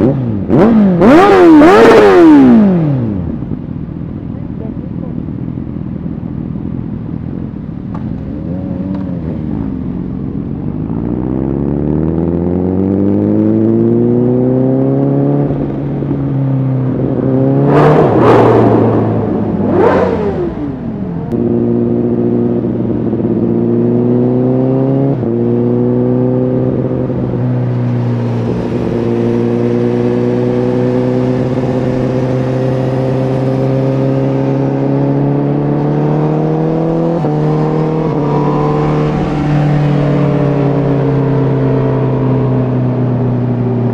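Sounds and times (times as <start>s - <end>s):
motorcycle engine revving: 0.0s - 3.6s, 6.6s - 43.9s.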